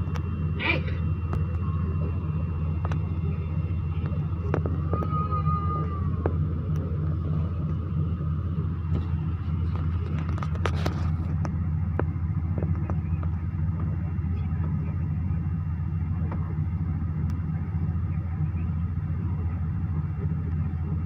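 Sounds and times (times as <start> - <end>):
jet engine drone: 0.0 - 21.0.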